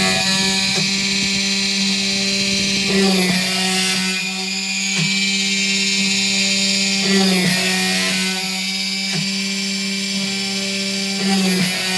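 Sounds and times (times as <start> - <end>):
drill spindle motor humming: 0.0 - 11.9.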